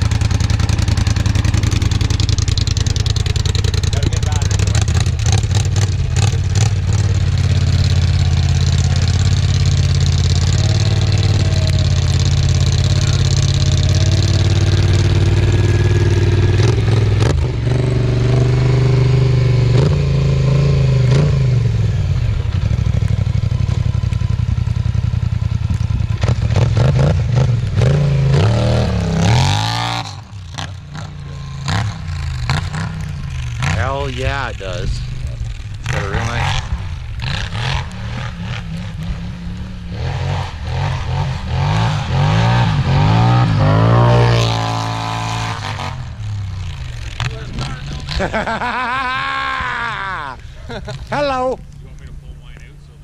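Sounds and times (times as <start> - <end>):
atv engine running and revving: 0.0 - 52.7.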